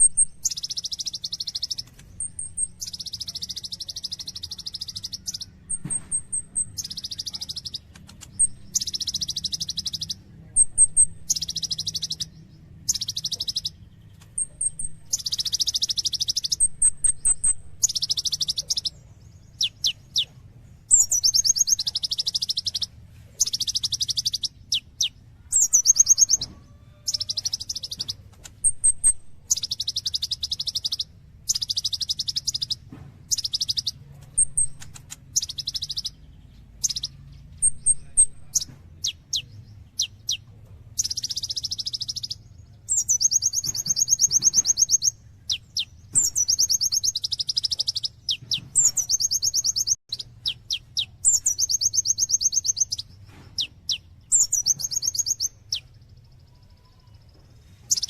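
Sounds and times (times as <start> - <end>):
short high bird chirps: 0.0 - 36.2, 41.0 - 58.0
bird singing buzzy trills: 0.0 - 58.0.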